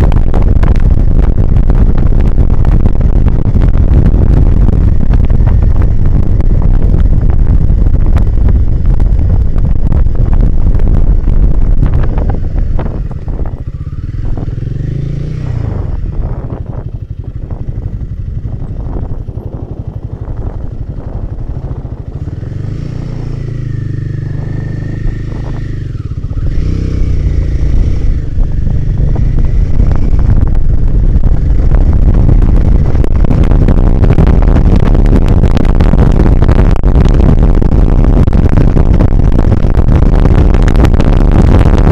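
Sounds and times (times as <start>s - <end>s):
motorcycle engine running: 0.0s - 41.9s
wind blasting microphone: 0.0s - 41.9s.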